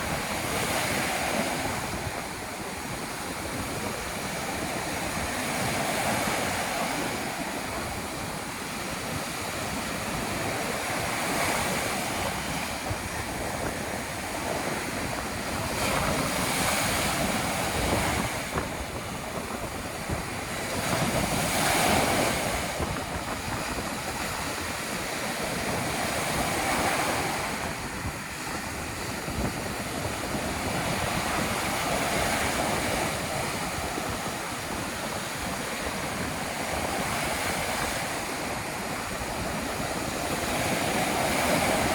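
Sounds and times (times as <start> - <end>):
ocean surf breaking: 0.0 - 41.9
wind blowing: 0.0 - 41.9.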